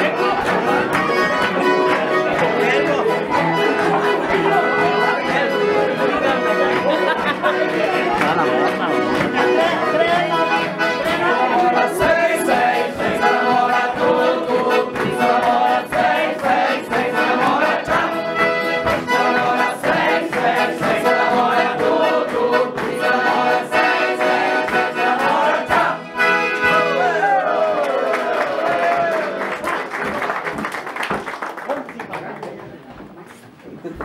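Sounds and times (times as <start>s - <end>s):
dance band with accordion and brass: 0.0s - 27.7s.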